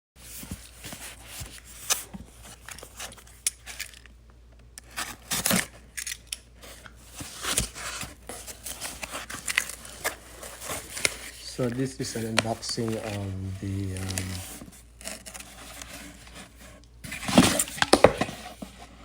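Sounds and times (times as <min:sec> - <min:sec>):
packaging tearing and rustling: 0:00.2 - 0:04.1, 0:04.8 - 0:18.7.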